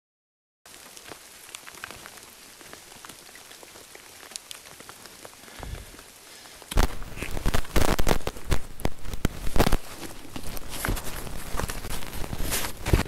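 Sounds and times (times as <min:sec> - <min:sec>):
rain hiss: 0:00.7 - 0:13.0
raindrops ticking: 0:00.7 - 0:13.0.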